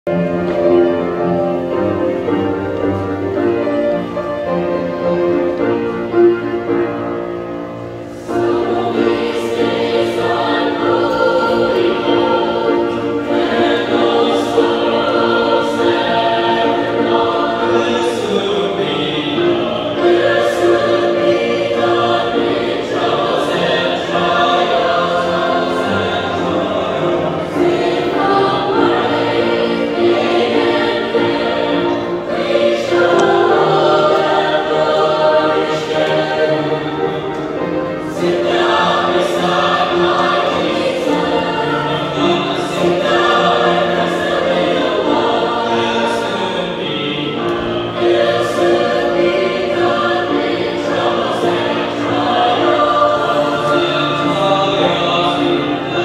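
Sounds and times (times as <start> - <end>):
mixed choir singing: 0.1 - 56.0.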